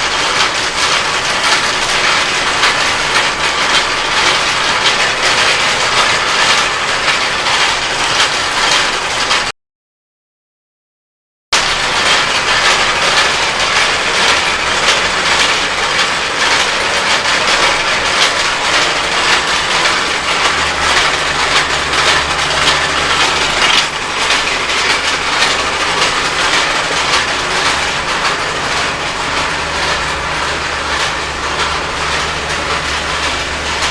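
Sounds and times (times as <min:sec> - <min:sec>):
rotating drum clattering: 0:00.0 - 0:09.5, 0:11.6 - 0:33.9.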